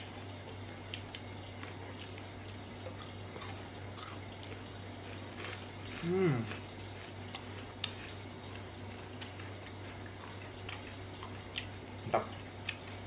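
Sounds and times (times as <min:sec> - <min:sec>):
steady low hum: 0:00.0 - 0:13.0
person chewing crunchy chips: 0:00.1 - 0:13.0.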